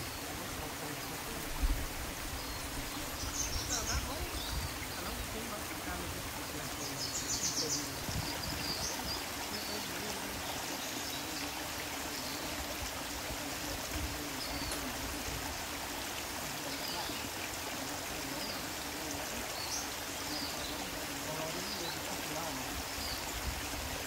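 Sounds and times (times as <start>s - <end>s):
stream trickling over rock: 0.0s - 24.0s.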